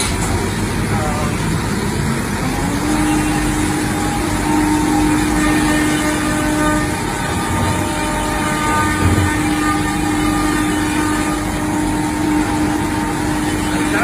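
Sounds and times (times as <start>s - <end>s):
router machine running: 0.0s - 14.0s.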